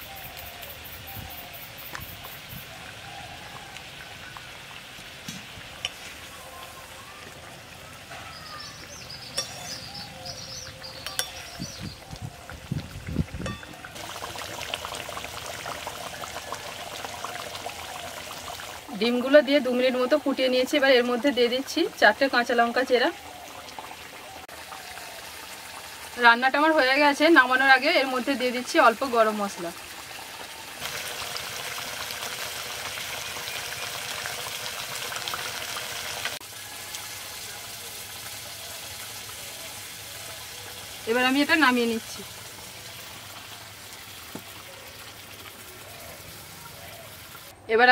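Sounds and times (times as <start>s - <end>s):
gravy bubbling and crackling: 2.1s - 47.5s.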